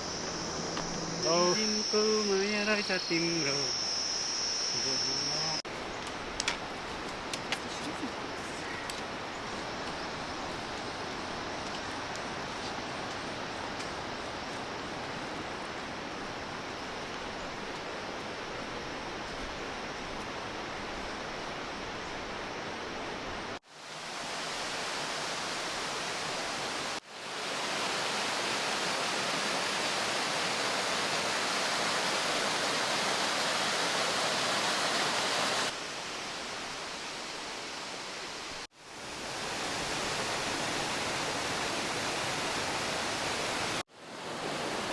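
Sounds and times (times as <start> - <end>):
rushing mountain stream: 5.7 - 44.9.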